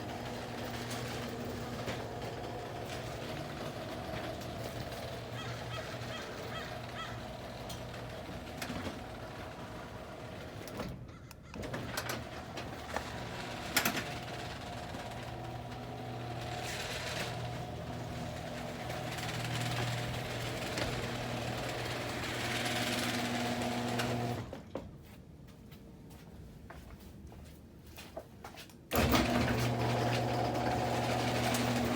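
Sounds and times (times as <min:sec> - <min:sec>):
garage door opener motor humming: 0:00.0 - 0:24.6, 0:28.9 - 0:31.9.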